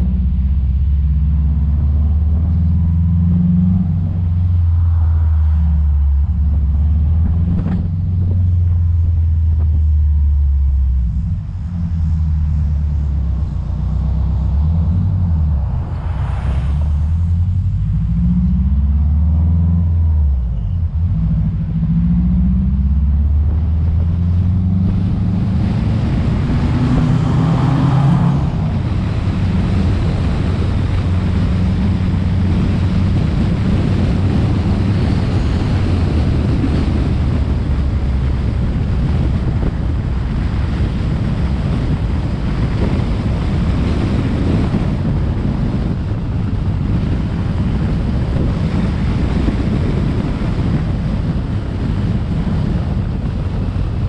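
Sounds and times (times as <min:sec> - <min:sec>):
car engine pulling away: 0:00.0 - 0:54.0
road noise: 0:00.0 - 0:54.0
wind on microphone: 0:00.0 - 0:54.0.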